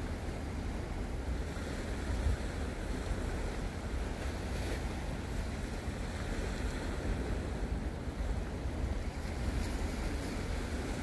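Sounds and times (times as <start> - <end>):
waves washing on rocks: 0.0 - 11.0.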